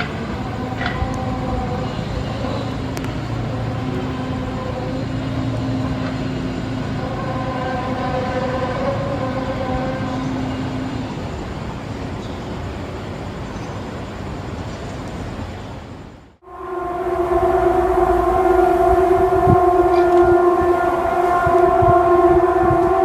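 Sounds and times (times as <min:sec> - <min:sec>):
steady rumble: 0:00.0 - 0:12.0, 0:16.4 - 0:23.0
low droning hum of held tones: 0:00.0 - 0:12.5, 0:16.4 - 0:23.0.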